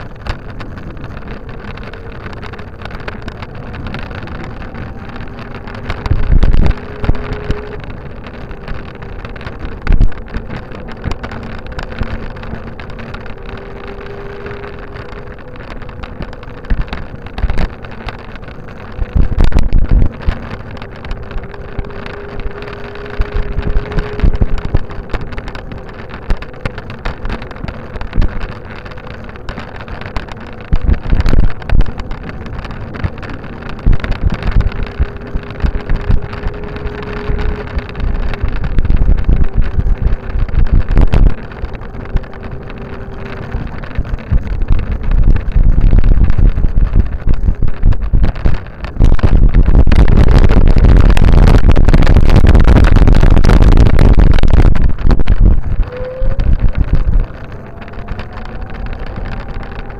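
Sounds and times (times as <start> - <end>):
wheels rolling rumble: 0.0 - 59.9
wheels rumbling on wooden bridge: 0.0 - 59.9
wind buffeting microphone: 0.0 - 59.9.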